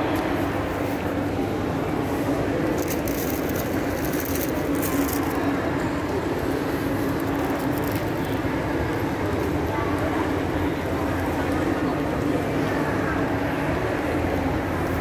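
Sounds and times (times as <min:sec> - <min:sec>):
shopping mall crowd hubbub: 0:00.0 - 0:15.0.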